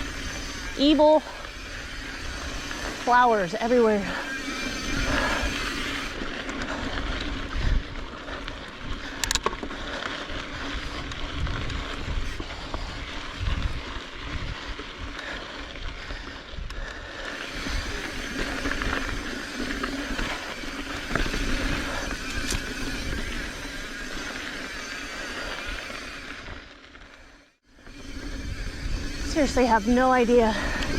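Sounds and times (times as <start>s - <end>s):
wind rumbling on microphone: 0.0s - 26.8s, 27.8s - 30.9s
bike drivetrain and frame rattle: 0.0s - 30.9s
bike tyres on dirt trail: 0.0s - 30.9s.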